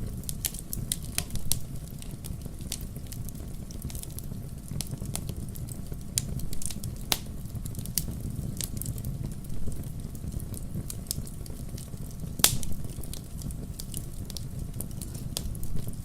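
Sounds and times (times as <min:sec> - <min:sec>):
fire rumbling: 0:00.0 - 0:16.0
logs crackling and popping: 0:00.0 - 0:16.0.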